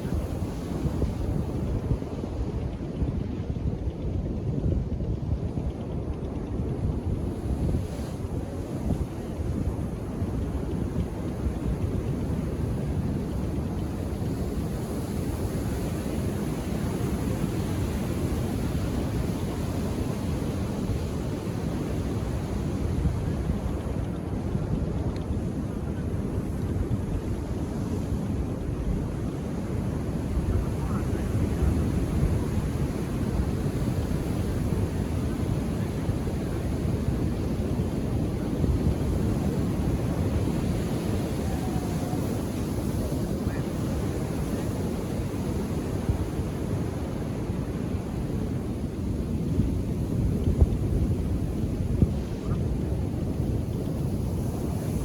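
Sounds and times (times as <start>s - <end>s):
calm surf washing onto beach: 5.6s - 55.0s.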